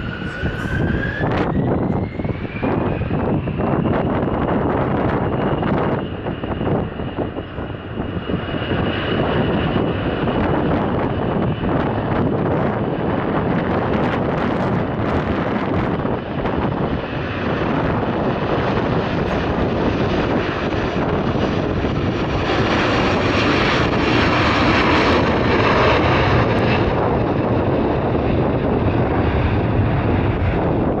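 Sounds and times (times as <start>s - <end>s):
jet engines passing by: 0.0s - 31.0s.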